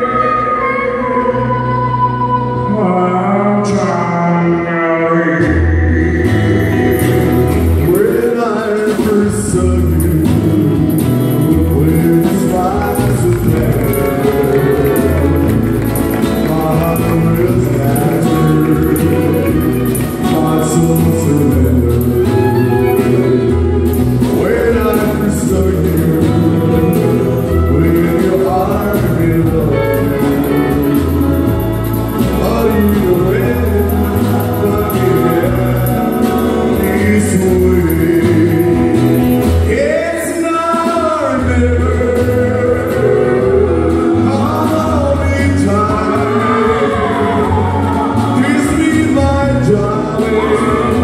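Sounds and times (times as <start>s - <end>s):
lead vocalist singing: 0.0s - 51.0s
live band playing: 0.0s - 51.0s.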